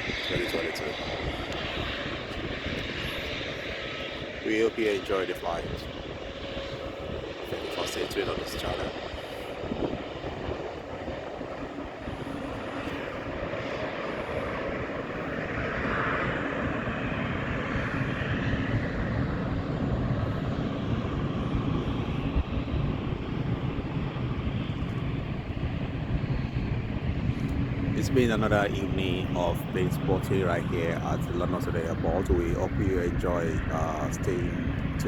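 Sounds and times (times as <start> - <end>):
jet engines rushing drone: 0.0 - 35.0.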